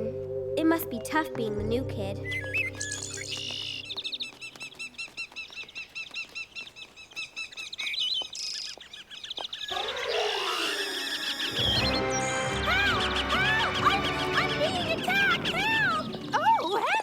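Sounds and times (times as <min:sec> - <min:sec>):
small birds chirping: 0:02.1 - 0:17.0.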